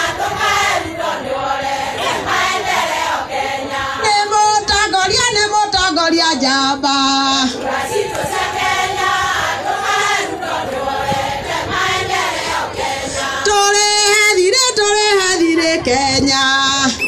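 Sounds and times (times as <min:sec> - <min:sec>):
women singing in chorus: 0:00.0 - 0:06.4, 0:07.3 - 0:17.0.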